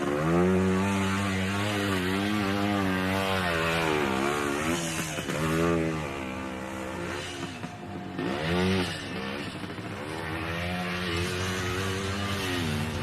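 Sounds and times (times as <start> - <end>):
two-stroke motorcycle engine: 0.0 - 13.0.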